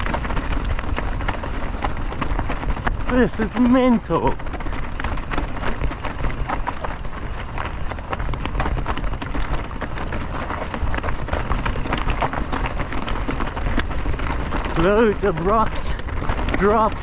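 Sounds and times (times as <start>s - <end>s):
bike rattling: 0.0s - 17.0s.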